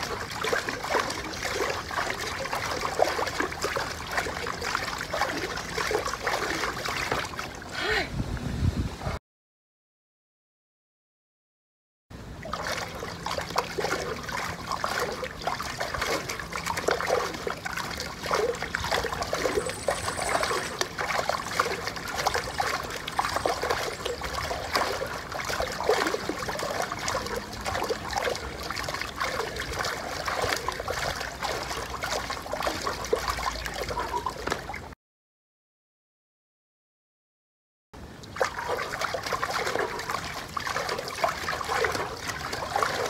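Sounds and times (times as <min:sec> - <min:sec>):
pool water sloshing and splashing: 0:00.0 - 0:07.7, 0:12.2 - 0:35.0, 0:38.0 - 0:43.0.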